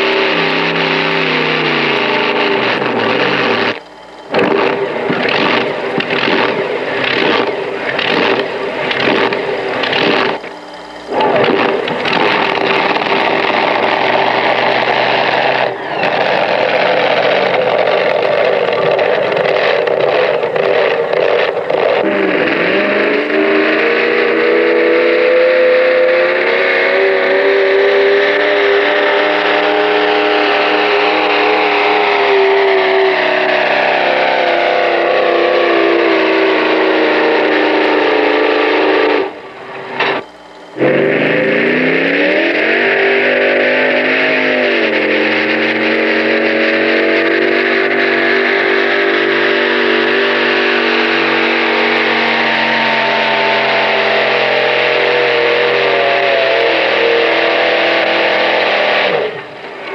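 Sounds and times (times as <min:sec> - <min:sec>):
tractor engines at full throttle: 0:00.0 - 0:59.9.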